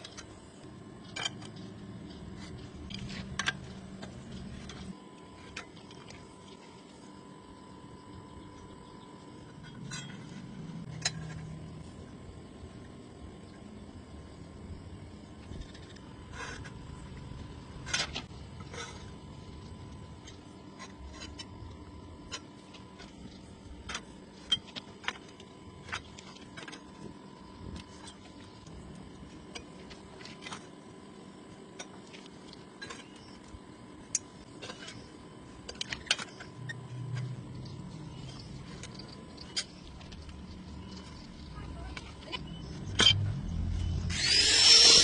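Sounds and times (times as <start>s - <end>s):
faint hum: 0.0s - 45.0s.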